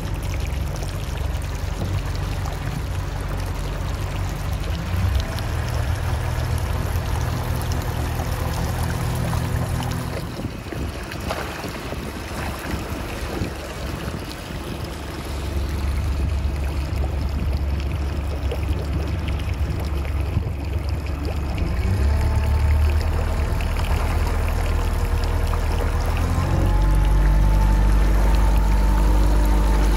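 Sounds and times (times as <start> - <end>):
cooling-water stream splashing: 0.0 - 29.9
outboard motor running: 0.0 - 29.9
propeller churning water: 0.0 - 29.9.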